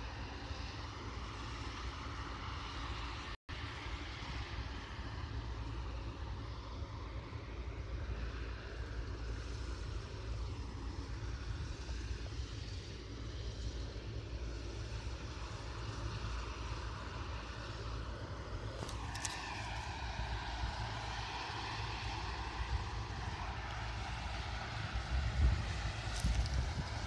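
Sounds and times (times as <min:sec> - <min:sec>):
combine harvester droning: 0:00.0 - 0:27.0.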